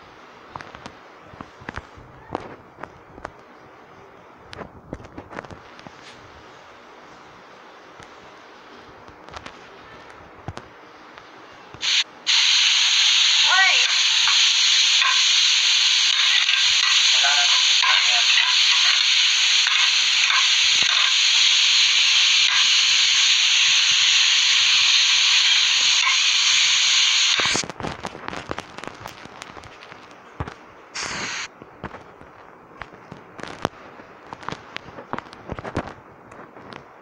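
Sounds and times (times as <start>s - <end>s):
scattered clicks and crackles: 0.5s - 3.5s, 4.5s - 6.3s, 7.9s - 8.2s, 8.9s - 12.4s, 13.6s - 37.0s.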